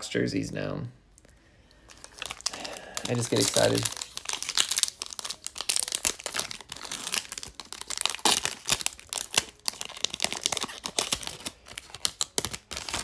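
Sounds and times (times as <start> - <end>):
foil wrapper tearing and crinkling: 1.9 - 13.0.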